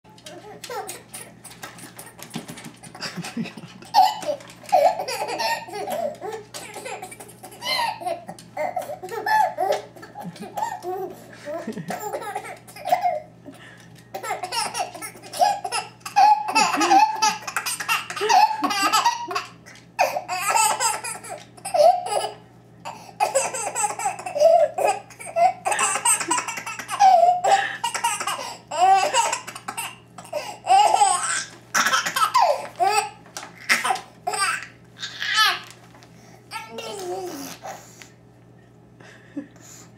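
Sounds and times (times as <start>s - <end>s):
baby laughing: 0.3s - 13.3s, 14.1s - 35.6s.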